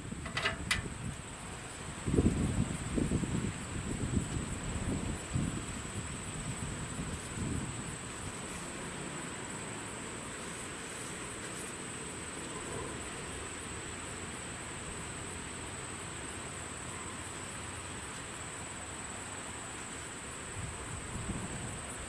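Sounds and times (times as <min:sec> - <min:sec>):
insect trill: 0:00.0 - 0:22.0
outdoor background hiss: 0:00.0 - 0:22.0.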